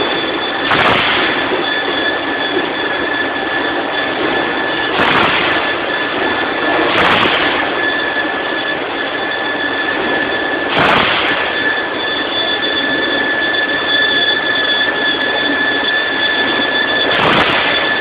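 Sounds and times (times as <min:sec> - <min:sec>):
band saw squealing through steel: 0:00.0 - 0:18.0.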